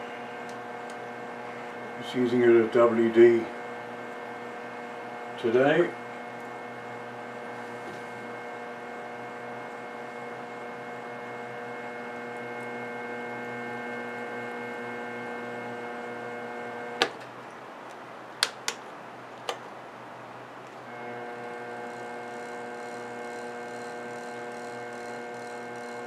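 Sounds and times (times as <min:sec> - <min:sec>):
milling machine motor humming: 0:00.0 - 0:17.1, 0:20.9 - 0:26.0.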